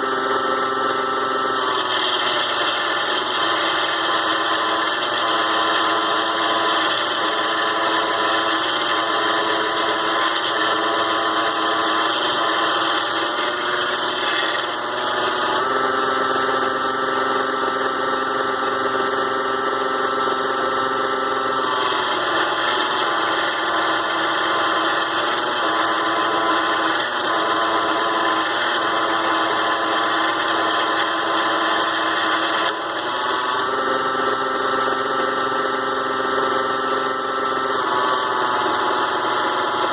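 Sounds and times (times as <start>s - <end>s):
mini lathe whining: 0.0s - 39.9s.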